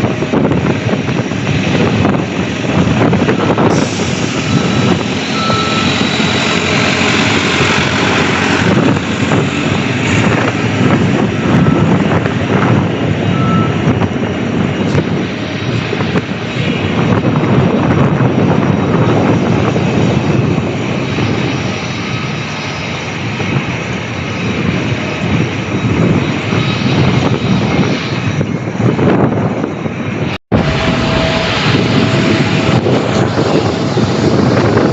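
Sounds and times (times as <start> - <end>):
aircraft engines running: 0.0 - 34.9.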